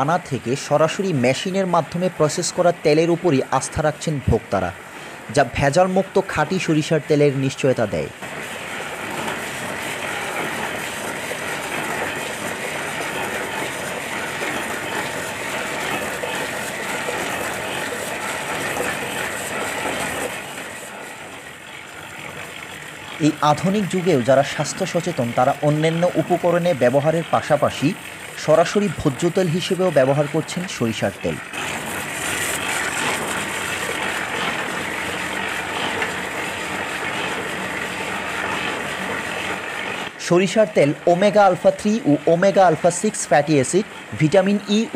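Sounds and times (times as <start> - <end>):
oil expeller mechanical clatter: 0.0 - 44.9.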